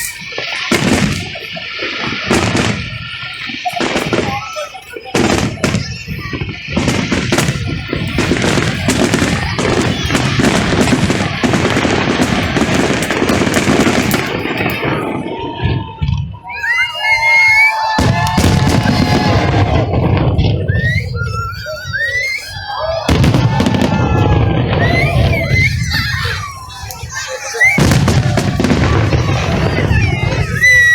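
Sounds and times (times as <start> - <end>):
fireworks bangs and crackles: 0.0 - 30.9.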